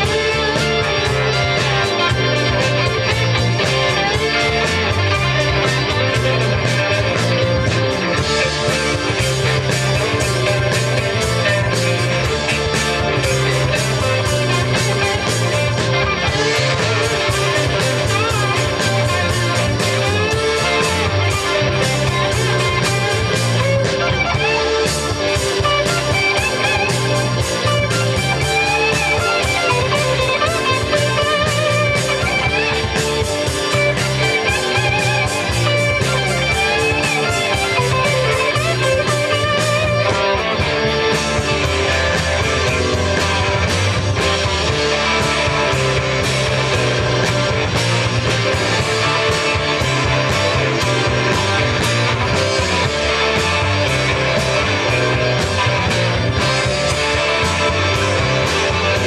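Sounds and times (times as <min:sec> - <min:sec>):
bass guitar: 0:00.0 - 0:59.0
drums: 0:00.0 - 0:59.0
electric guitar lead: 0:00.0 - 0:59.0.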